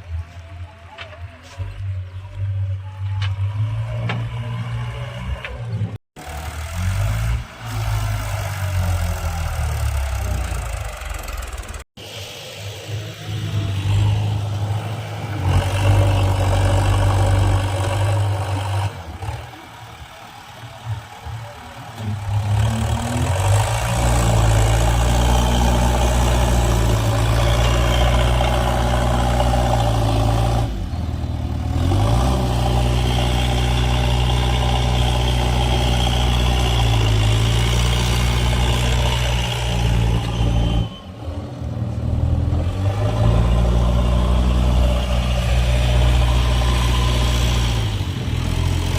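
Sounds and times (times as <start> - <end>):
heavy diesel engine working: 0.0 - 48.9.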